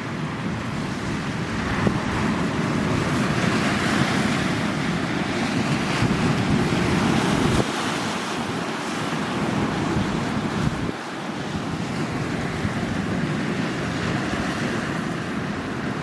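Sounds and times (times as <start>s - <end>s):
sea waves washing in: 0.0s - 16.0s
wind buffeting microphone: 0.0s - 16.0s.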